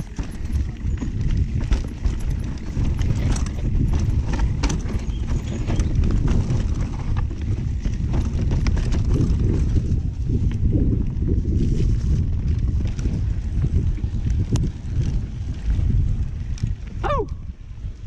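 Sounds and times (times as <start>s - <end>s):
bike chain and frame clattering: 0.0s - 17.0s
tyres rumbling on trail: 0.0s - 18.0s
wind on microphone: 0.0s - 18.0s.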